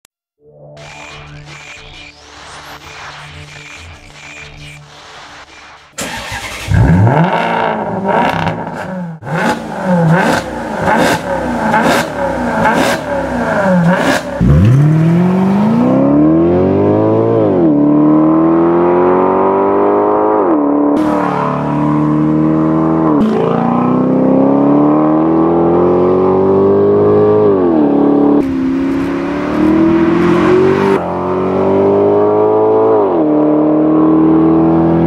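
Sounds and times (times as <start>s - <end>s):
car engine revving and accelerating: 5.9s - 35.0s.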